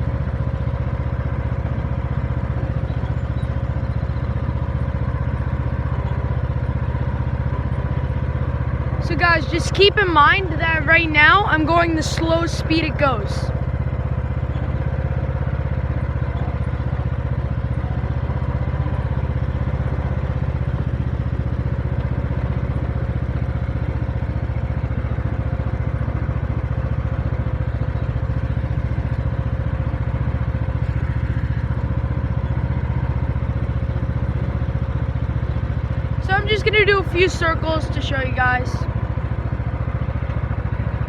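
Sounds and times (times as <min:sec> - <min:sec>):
riding lawn mower engine running: 0:00.0 - 0:41.0.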